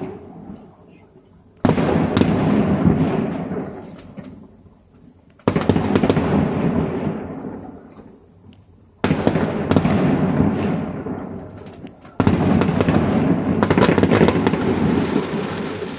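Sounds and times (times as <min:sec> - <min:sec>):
firework shell bursts booming: 0:00.0 - 0:00.7, 0:01.6 - 0:04.5, 0:05.4 - 0:08.2, 0:09.0 - 0:15.9
firework crackles: 0:00.0 - 0:15.9.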